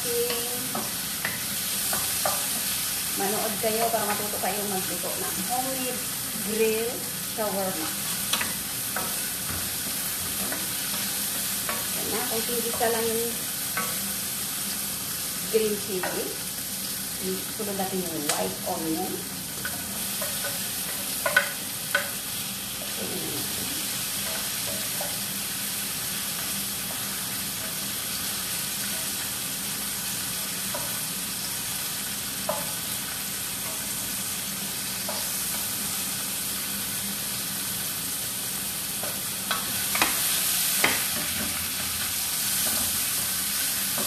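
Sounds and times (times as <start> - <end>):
vegetables sizzling in oil: 0.0 - 44.0.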